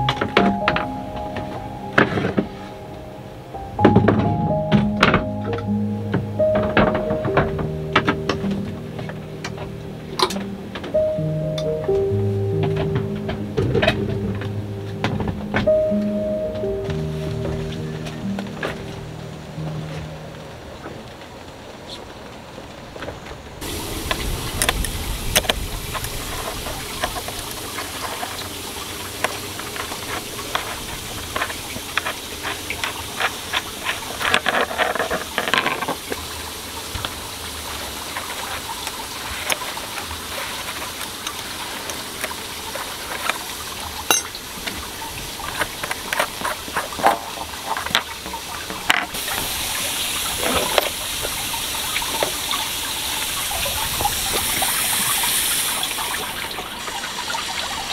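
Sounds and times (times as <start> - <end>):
running water rushing: 0.0 - 57.9.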